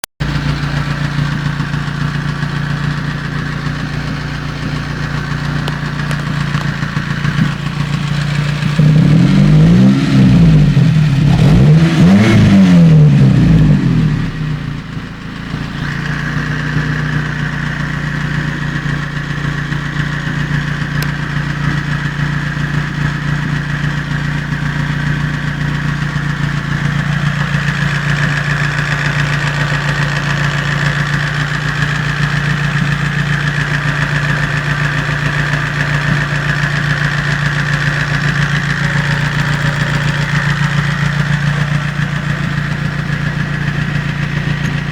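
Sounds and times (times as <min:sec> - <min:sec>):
petrol engine idling and revving: 0:00.0 - 0:44.9.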